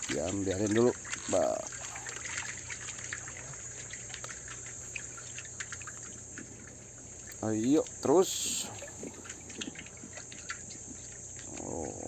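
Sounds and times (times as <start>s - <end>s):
seawater lapping among rocks: 0.0s - 12.0s
small water splashes: 0.0s - 12.0s
steady high-pitched hum: 0.0s - 12.0s.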